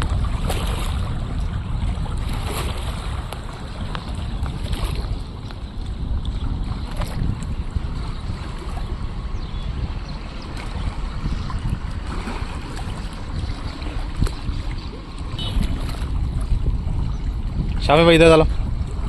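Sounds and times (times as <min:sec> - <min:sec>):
river waves splashing: 0:00.0 - 0:19.0
wind rumbling on microphone: 0:00.0 - 0:19.0.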